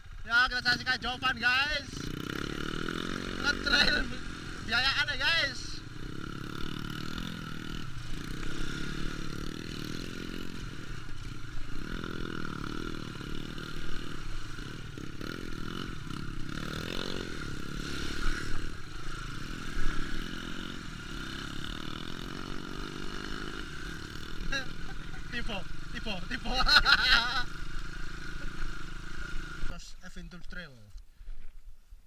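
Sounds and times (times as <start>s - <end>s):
motorcycle engine revving: 0.0s - 29.8s.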